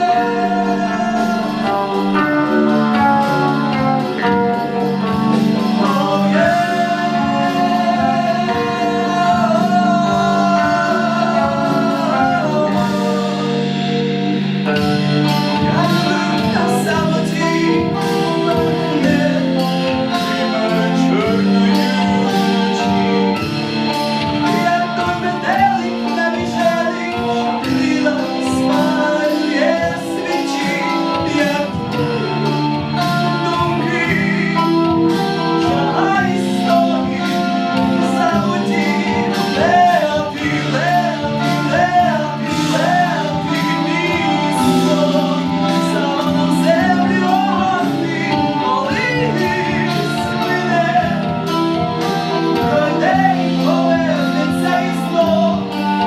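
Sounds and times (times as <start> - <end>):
live band playing: 0.0 - 56.0
person singing: 0.0 - 56.0.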